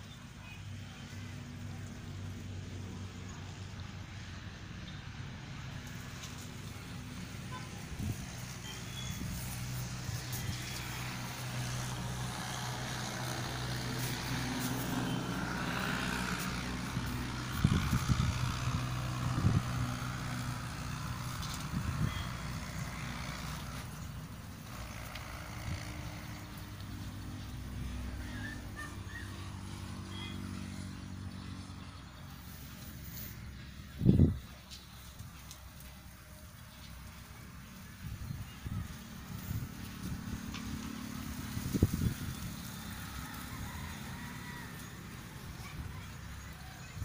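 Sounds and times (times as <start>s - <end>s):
low engine hum: 0.0s - 47.0s.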